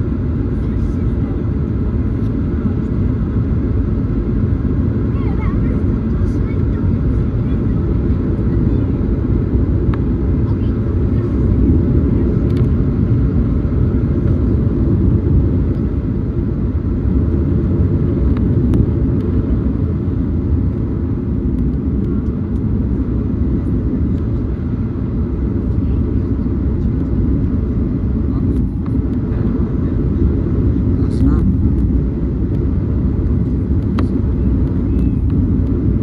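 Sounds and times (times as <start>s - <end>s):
aircraft engines rumbling in cabin: 0.0s - 36.0s.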